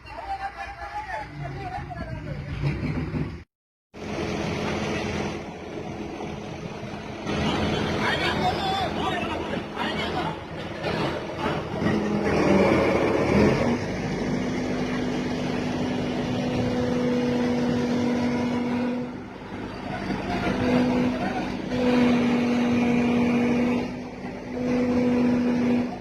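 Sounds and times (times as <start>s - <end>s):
crane engine humming: 4.0s - 26.0s.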